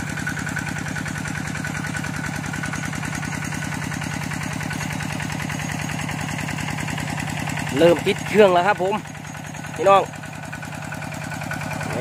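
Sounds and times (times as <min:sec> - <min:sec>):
water pump engine running: 0:00.0 - 0:12.0.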